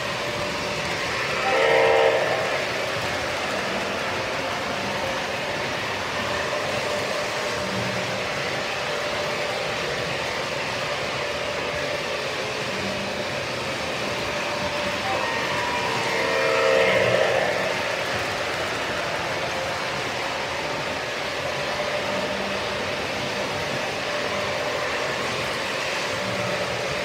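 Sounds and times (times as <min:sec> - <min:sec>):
model train wheels rumbling: 0:00.0 - 0:27.0.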